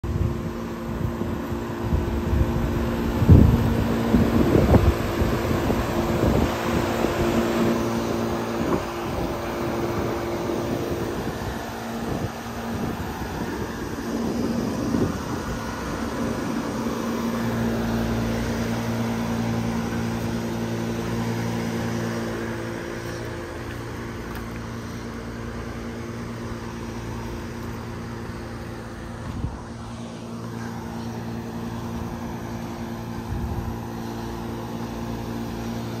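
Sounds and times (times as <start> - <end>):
compressor hum: 0.0 - 36.0
fans whooshing: 0.2 - 36.0.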